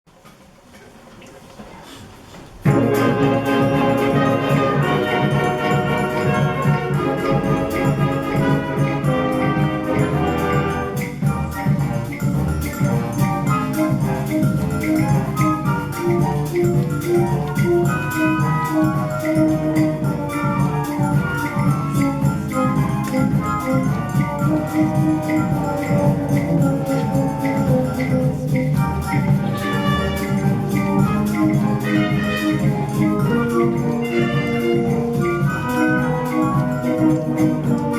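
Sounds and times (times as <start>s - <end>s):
concert band playing: 2.6s - 37.9s.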